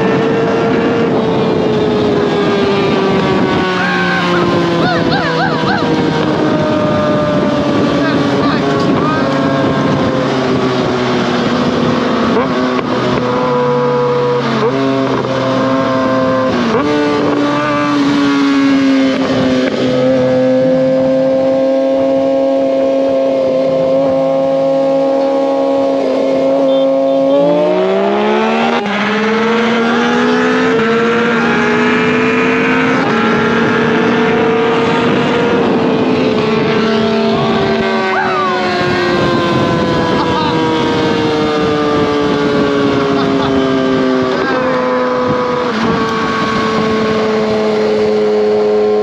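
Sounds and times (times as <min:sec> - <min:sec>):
motorcycle engine at high revs: 0:00.0 - 0:49.0.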